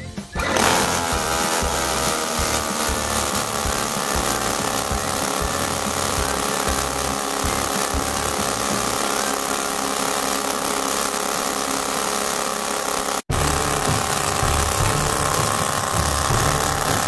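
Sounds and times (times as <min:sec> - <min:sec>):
model boat engine whining: 0:00.0 - 0:17.0.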